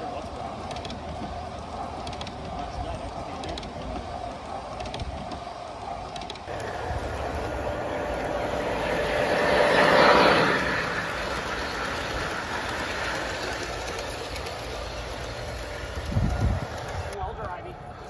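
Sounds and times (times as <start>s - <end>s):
model train passing on track: 0.0s - 18.0s.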